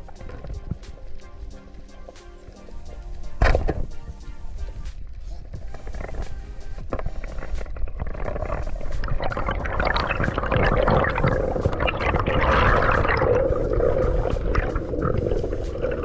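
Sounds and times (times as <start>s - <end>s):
water gurgling and sloshing: 0.0s - 16.0s.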